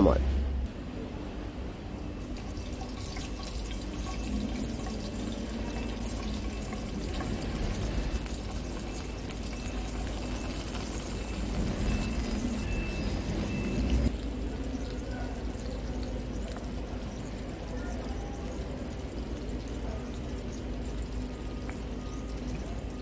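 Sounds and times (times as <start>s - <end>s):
food sizzling in hot oil: 2.1s - 23.0s.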